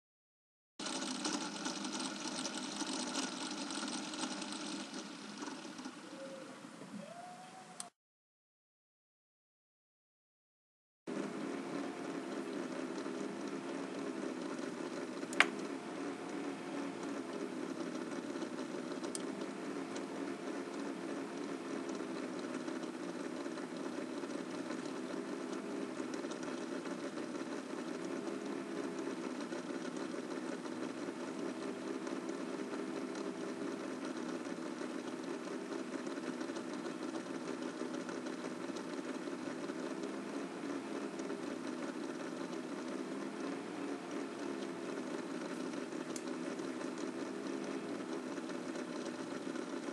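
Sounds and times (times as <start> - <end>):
laptop buzzing: 0.8 - 6.5, 11.1 - 49.9.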